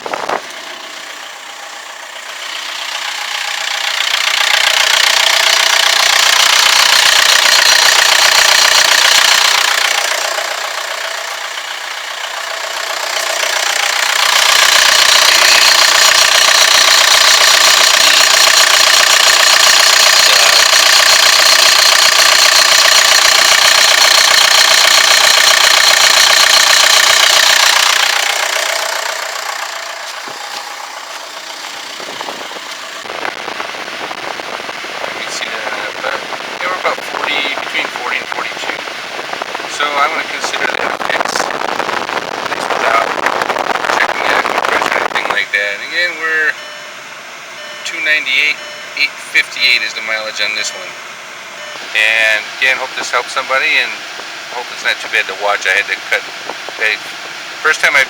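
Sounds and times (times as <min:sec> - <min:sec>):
car air conditioning whirr: 0:00.0 - 0:58.0.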